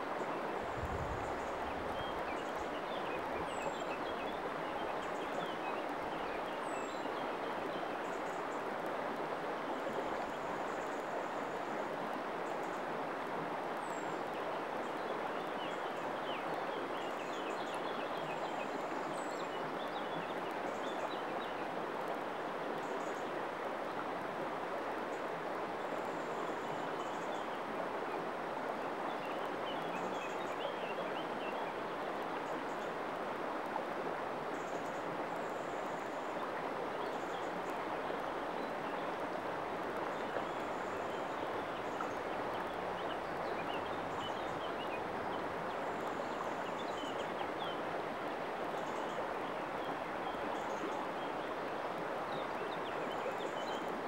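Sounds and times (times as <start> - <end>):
river water flowing over rocks: 0.0 - 54.0.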